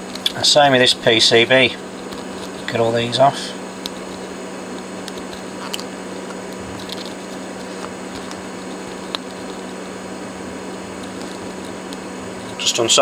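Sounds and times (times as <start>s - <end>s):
room hum and hiss: 0.0s - 13.0s.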